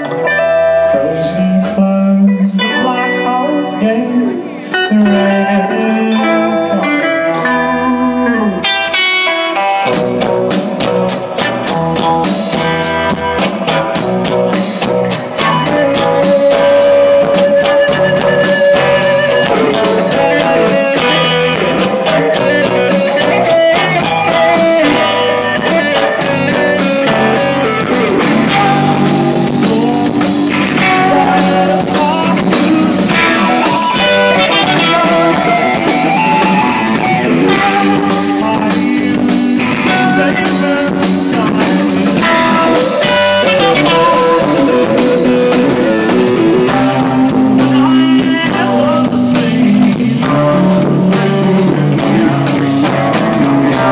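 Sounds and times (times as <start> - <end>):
electric guitar lines: 0.0 - 53.9
rock band playing: 0.0 - 53.9
drum kit beat: 7.3 - 53.9.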